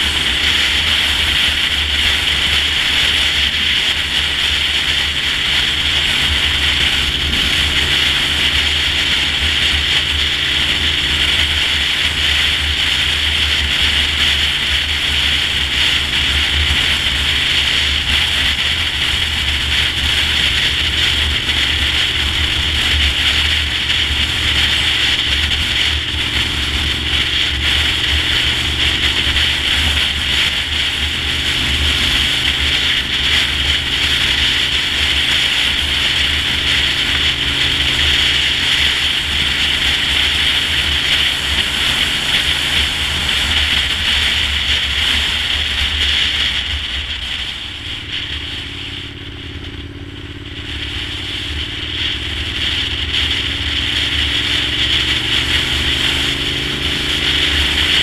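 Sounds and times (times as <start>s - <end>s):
motorcycle engine drone: 0.0s - 58.0s
wind noise on microphone: 0.0s - 58.0s.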